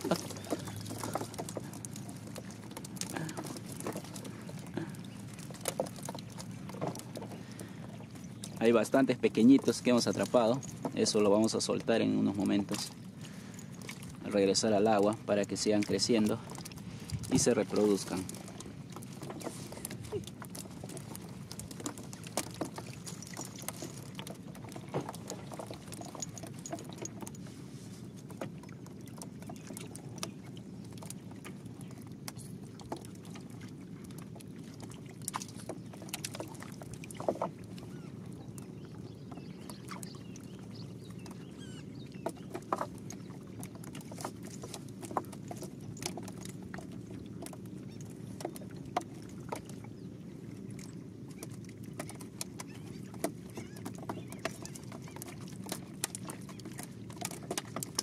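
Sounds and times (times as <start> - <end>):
fish flopping in boat: 0.0 - 58.0.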